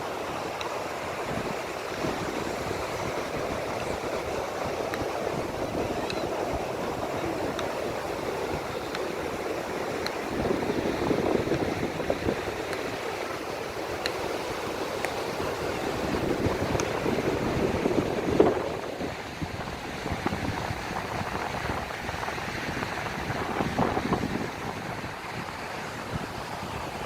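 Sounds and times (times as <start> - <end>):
sea waves washing in: 0.0 - 27.0.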